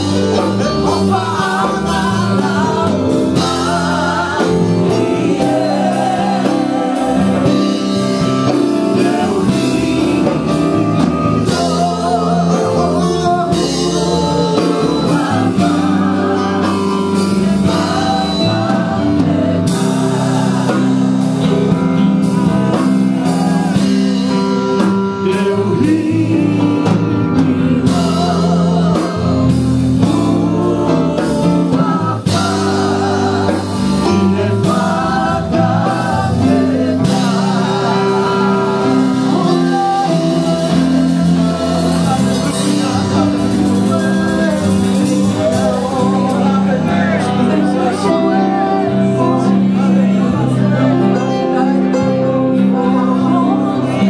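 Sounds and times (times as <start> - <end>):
band with bass and drums: 0.0 - 54.0
voices singing gospel: 0.0 - 54.0.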